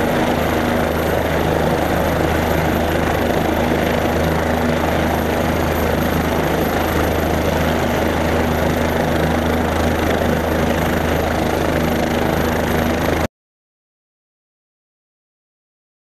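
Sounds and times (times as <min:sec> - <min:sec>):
helicopter engine and rotor thrum: 0:00.0 - 0:13.3
high turbine whine: 0:00.0 - 0:13.3.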